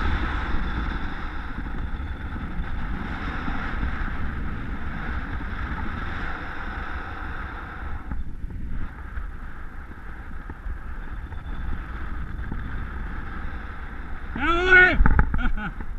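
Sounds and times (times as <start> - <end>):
low rumble: 0.0 - 15.9
wind hiss over microphone: 0.0 - 15.9.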